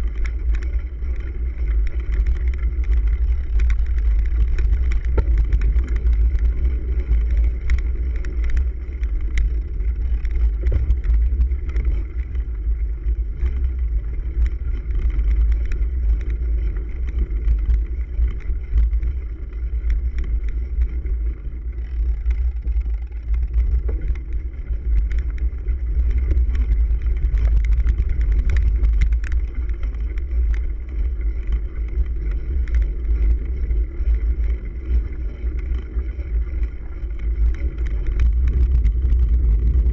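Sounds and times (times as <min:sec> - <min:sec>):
bike clicks and rattles: 0:00.0 - 0:39.9
wind and road rumble: 0:00.0 - 0:39.9.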